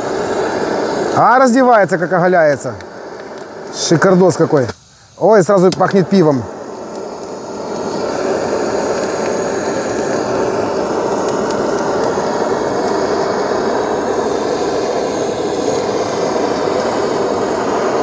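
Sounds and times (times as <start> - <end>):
blowtorch flame rushing: 0.0 - 18.0.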